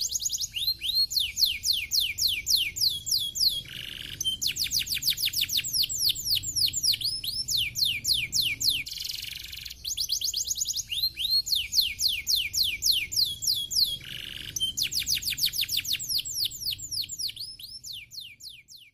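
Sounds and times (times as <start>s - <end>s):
canary singing trills: 0.0s - 18.9s.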